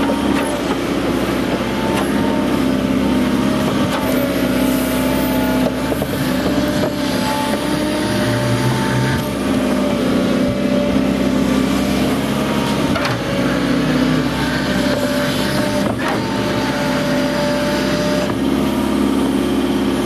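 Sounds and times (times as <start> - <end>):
excavator diesel engine: 0.0 - 20.0
steady whine: 0.0 - 20.0.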